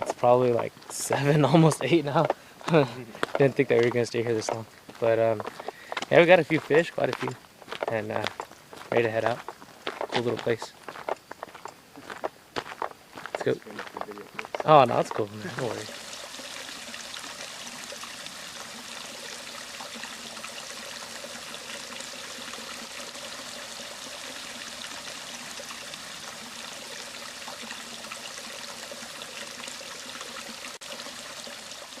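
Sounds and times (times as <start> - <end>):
creek water flowing: 0.0 - 32.0.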